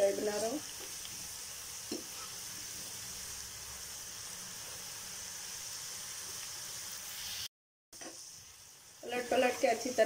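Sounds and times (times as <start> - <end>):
okra deep-frying in oil: 0.0 - 10.0.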